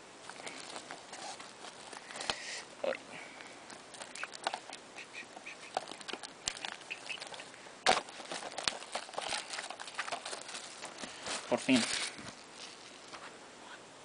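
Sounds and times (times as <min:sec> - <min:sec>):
plastic shrink-wrap crinkling: 0:00.2 - 0:02.6, 0:03.4 - 0:04.8, 0:05.4 - 0:13.3.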